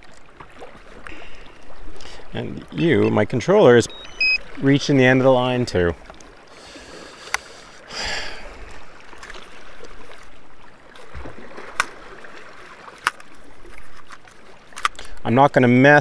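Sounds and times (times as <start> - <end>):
water swish: 0.0 - 15.8
water lapping against kayak hull: 0.0 - 15.9.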